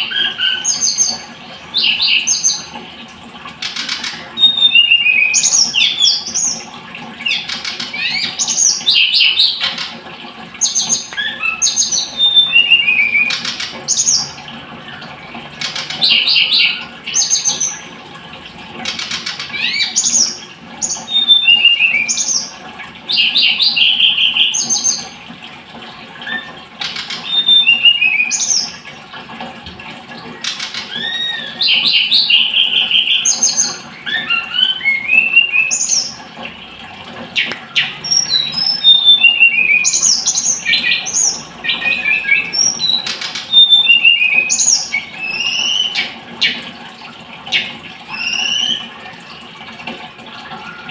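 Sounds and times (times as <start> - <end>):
bird singing high chirps and trills: 0.0 - 2.8, 3.6 - 9.9, 10.6 - 14.4, 15.6 - 17.9, 18.9 - 25.2, 26.2 - 28.9, 30.3 - 36.2, 37.3 - 46.6, 47.5 - 48.9.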